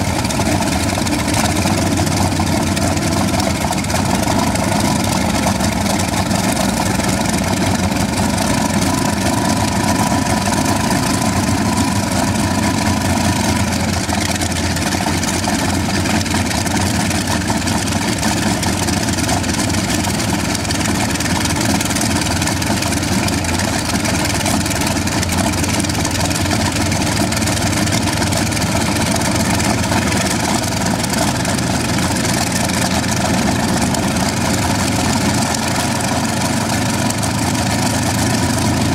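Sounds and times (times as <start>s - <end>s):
radial piston engines idling: 0.0s - 38.9s.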